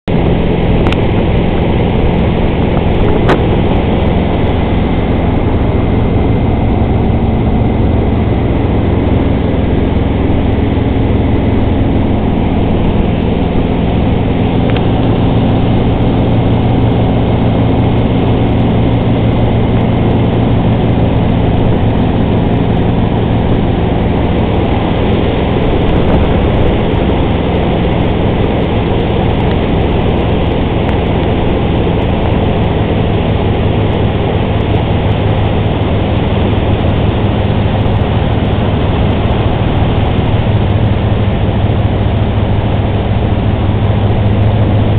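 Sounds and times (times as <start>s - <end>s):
boat engine running: 0.0s - 44.9s
water rushing past hull: 0.1s - 44.9s.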